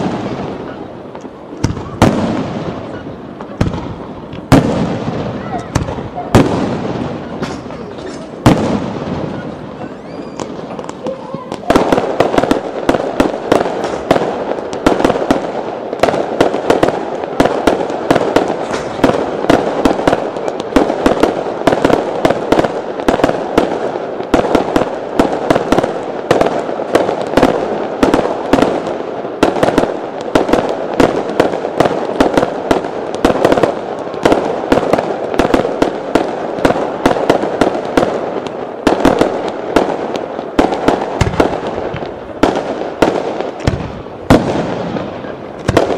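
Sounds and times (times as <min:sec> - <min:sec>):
fireworks popping and banging: 0:00.0 - 0:45.9.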